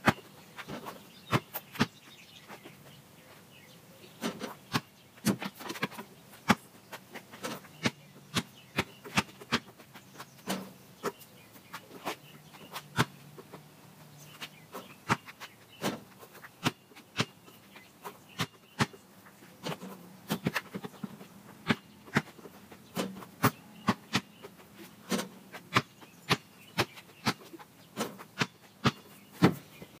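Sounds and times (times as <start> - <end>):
basketball bouncing on pavement: 0.0 - 3.0, 4.2 - 13.7, 14.3 - 19.0, 19.6 - 30.0.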